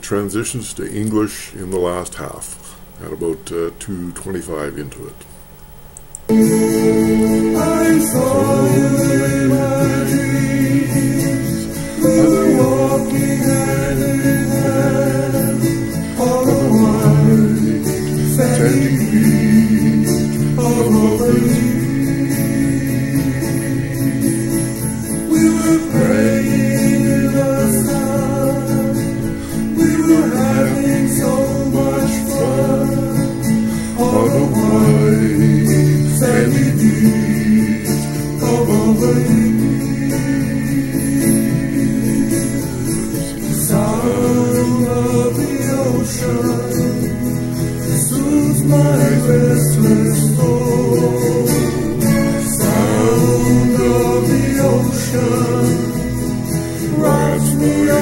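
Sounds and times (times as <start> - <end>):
instrumental chords with guitar: 6.0 - 58.0
man singing: 6.3 - 24.5, 25.2 - 58.0.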